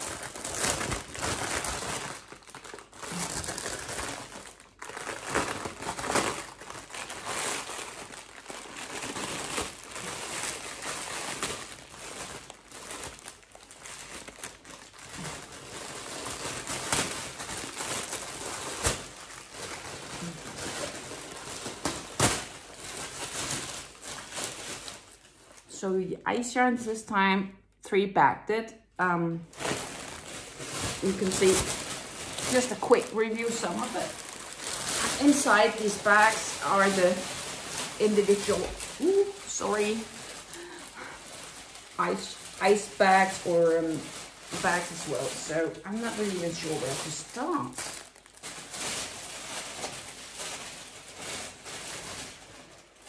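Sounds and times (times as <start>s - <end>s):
plastic bag snapping: 0.0s - 25.6s, 29.5s - 45.5s, 46.1s - 53.0s
plastic bag crinkling: 0.0s - 25.8s, 29.5s - 53.0s.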